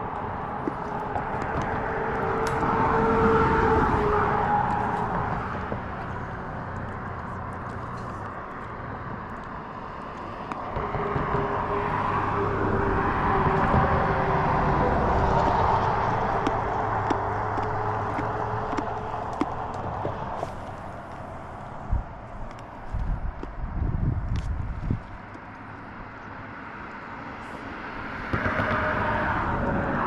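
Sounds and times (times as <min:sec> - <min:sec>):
engine droning: 0:00.0 - 0:24.2, 0:24.9 - 0:30.0.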